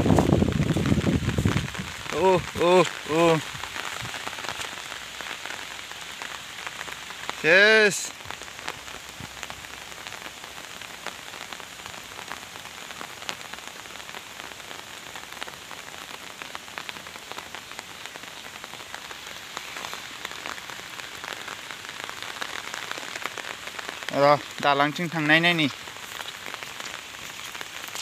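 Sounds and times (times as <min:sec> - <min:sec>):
rain falling on water and foliage: 0:00.0 - 0:28.0.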